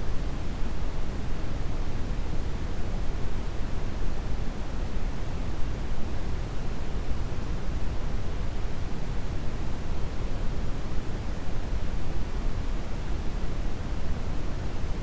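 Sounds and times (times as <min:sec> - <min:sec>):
brown noise hiss: 0:00.0 - 0:15.0.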